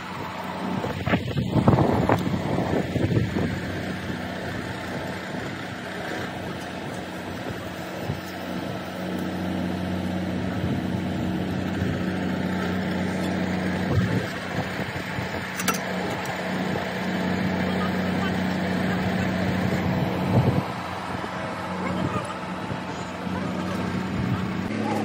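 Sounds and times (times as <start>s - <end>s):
drilling rig engine droning: 0.0s - 25.0s.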